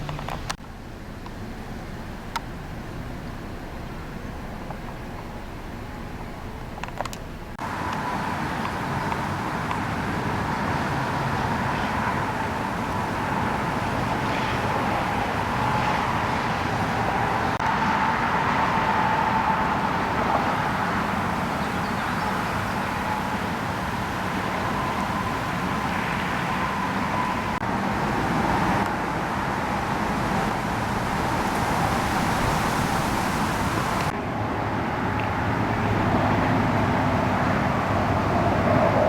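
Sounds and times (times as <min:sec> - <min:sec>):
wind and rain rushing: 0:00.0 - 0:39.0.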